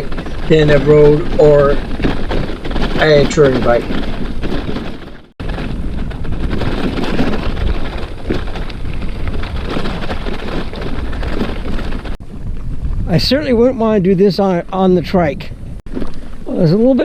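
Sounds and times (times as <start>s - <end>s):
bicycle rattling on dirt trail: 0.0s - 15.3s, 15.9s - 17.0s
wind buffeting microphone: 0.0s - 17.0s.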